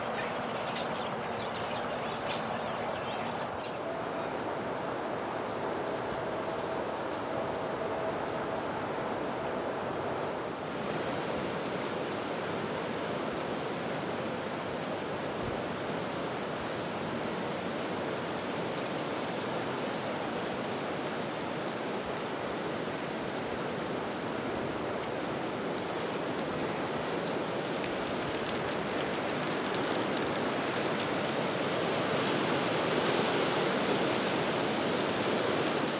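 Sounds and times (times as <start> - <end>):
rushing woodland noise: 0.0 - 35.9.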